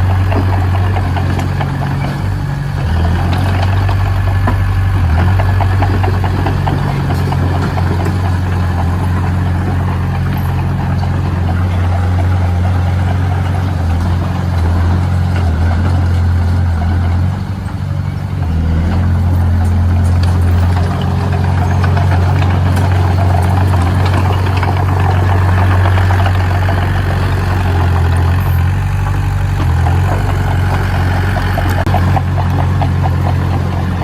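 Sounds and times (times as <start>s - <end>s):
heavy machine engine droning: 0.0s - 34.0s.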